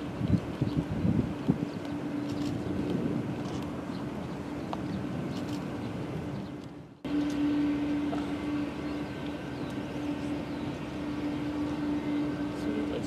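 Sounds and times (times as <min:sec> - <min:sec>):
jet engines droning: 0:00.0 - 0:13.0.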